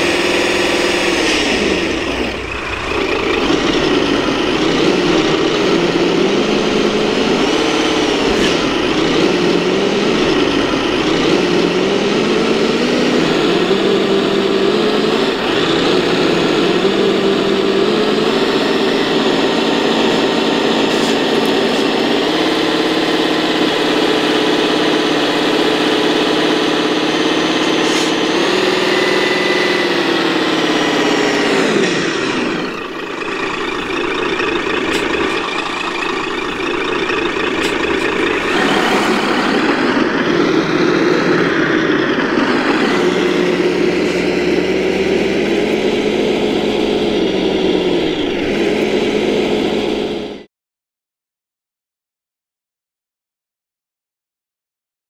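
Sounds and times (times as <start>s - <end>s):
simulated diesel truck engine: 0.0s - 50.5s.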